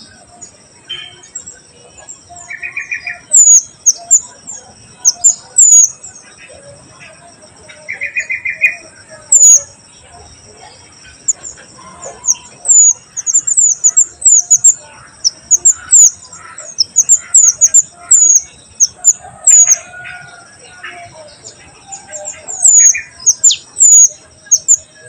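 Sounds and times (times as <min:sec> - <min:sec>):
bird trill: 0:00.0 - 0:25.0
steady high-pitched hiss: 0:00.0 - 0:25.0.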